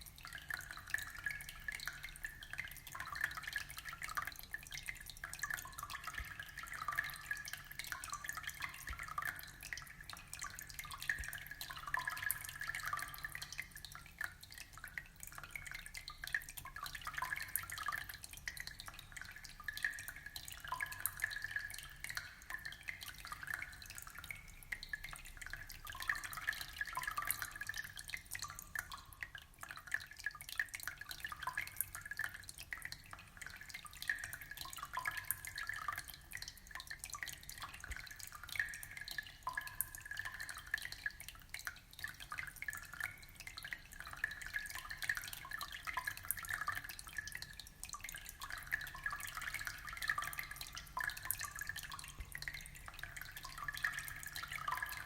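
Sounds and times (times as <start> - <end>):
aquarium water trickling and bubbling: 0.0 - 55.0.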